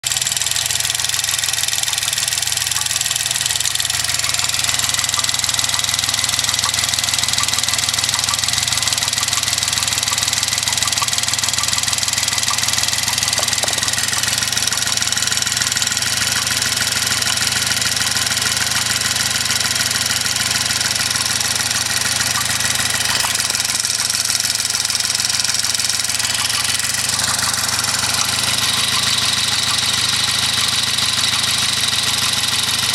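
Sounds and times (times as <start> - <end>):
car engine running: 0.0 - 32.9.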